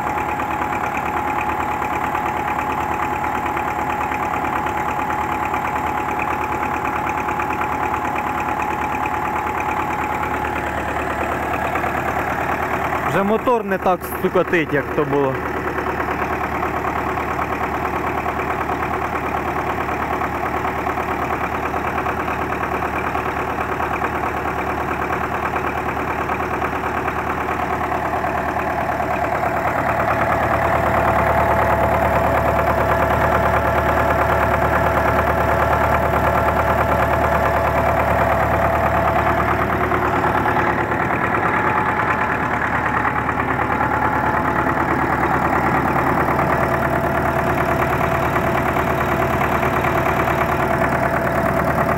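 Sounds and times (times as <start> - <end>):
diesel tractor engine idling: 0.0 - 51.9.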